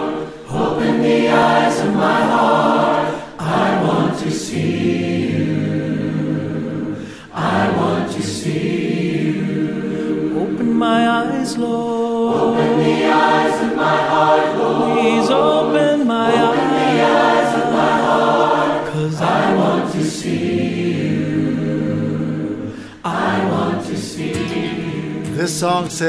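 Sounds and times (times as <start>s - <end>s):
choir singing in harmony: 0.0s - 25.9s.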